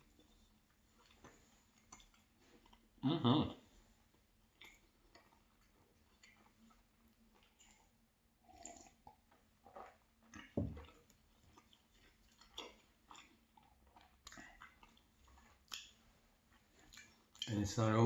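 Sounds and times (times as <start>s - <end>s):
person chewing pastry: 0.0s - 17.6s.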